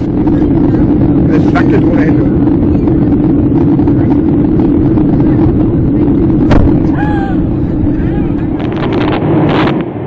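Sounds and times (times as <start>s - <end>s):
loud steady rumbling: 0.0s - 10.0s.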